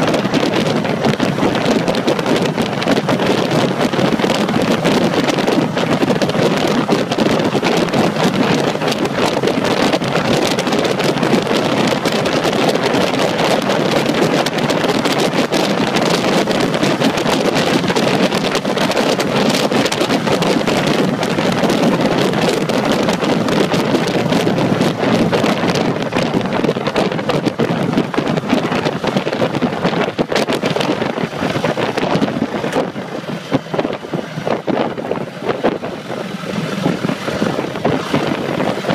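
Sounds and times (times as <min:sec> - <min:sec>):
motorcycle running: 0:00.0 - 0:38.9
wind rush on microphone: 0:00.0 - 0:38.9.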